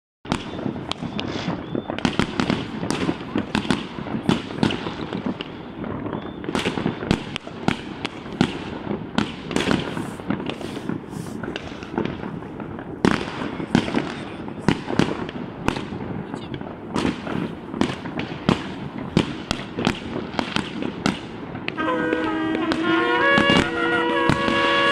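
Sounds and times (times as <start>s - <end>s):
firecrackers crackling: 0.3s - 24.9s
sharp firework reports: 0.3s - 24.9s.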